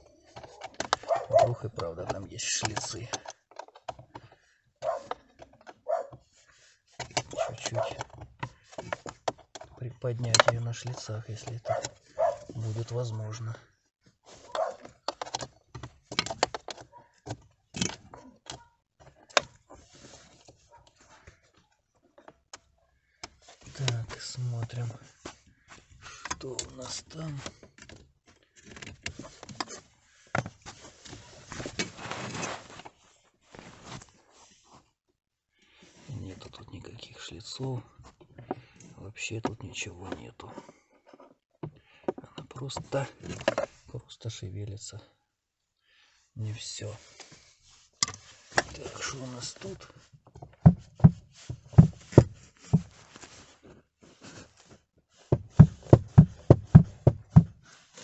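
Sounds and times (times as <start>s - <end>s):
plastic parts scraping and rattling: 0.0s - 34.8s, 36.0s - 45.0s, 46.5s - 58.0s.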